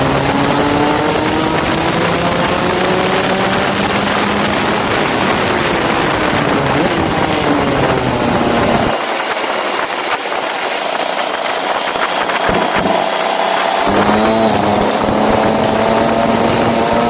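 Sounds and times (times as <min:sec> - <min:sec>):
go-kart engine accelerating: 0:00.0 - 0:17.0.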